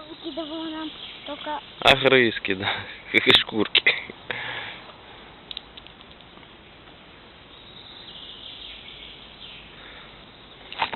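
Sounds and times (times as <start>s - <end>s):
steady forest hiss: 0.0s - 10.9s.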